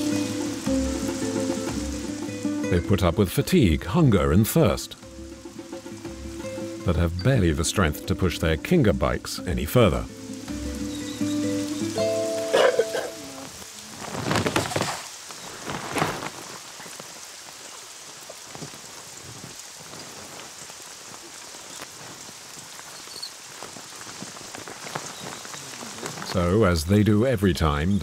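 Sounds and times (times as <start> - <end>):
rain on foliage: 0.0 - 28.0.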